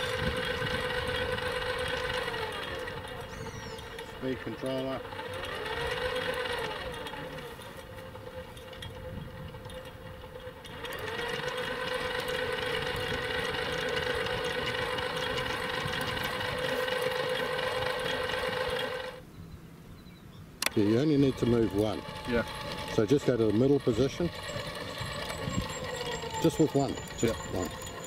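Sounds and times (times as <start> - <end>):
electric winch motor whining: 0.0 - 19.2, 20.6 - 28.0.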